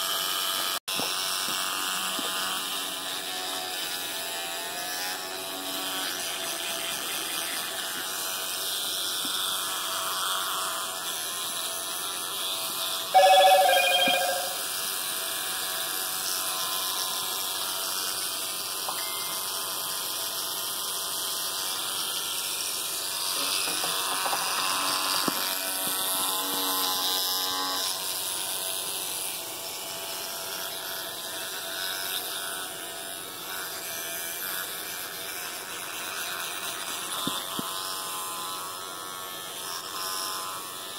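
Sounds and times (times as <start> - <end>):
electric toothbrush buzzing: 0.0 - 40.9.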